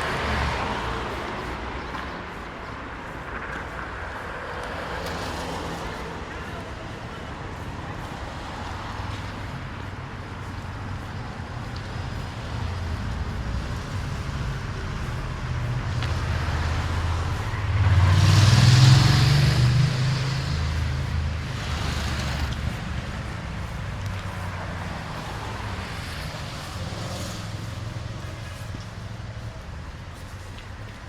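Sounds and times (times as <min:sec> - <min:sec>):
cars passing: 0:00.0 - 0:31.0
traffic engine rumble: 0:00.0 - 0:31.0.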